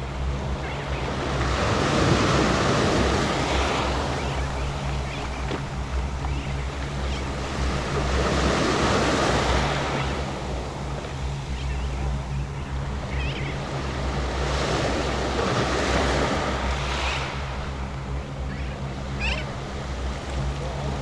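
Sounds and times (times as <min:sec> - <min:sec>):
small waves breaking on shore: 0:00.0 - 0:21.0.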